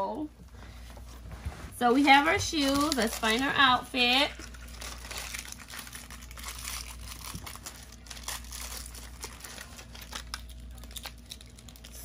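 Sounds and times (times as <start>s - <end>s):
plastic packaging crinkling: 1.9s - 12.0s.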